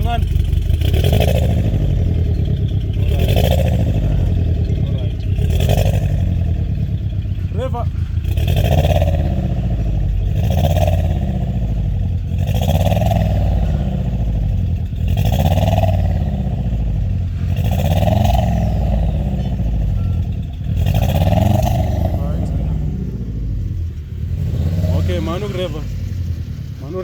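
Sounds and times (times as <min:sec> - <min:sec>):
misfiring car engine revving: 0:00.0 - 0:27.0.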